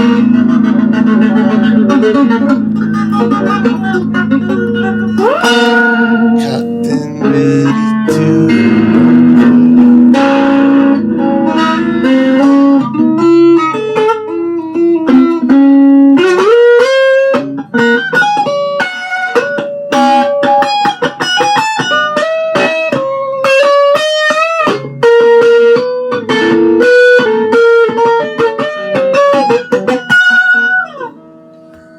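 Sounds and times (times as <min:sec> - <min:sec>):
electric guitar solo: 0:00.0 - 0:31.9.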